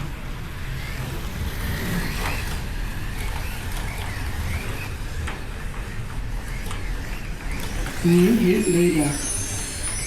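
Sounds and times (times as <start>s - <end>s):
low rumble of cars on track: 0.0s - 8.5s
slot car motors whining: 0.0s - 10.0s.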